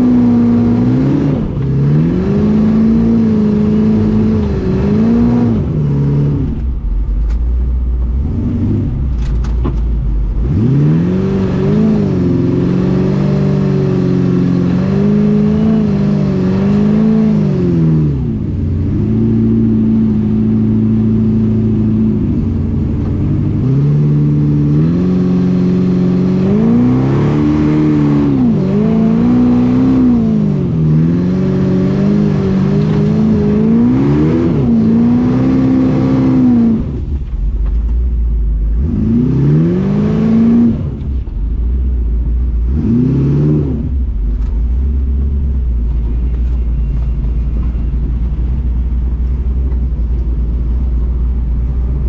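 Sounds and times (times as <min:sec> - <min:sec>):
buggy engine revving: 0:00.0 - 0:52.0.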